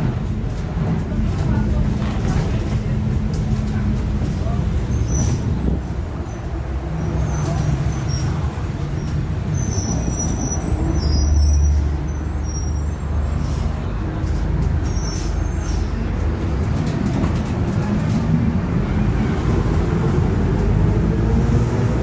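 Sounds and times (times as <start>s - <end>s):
bus drivetrain drone: 0.0s - 22.0s.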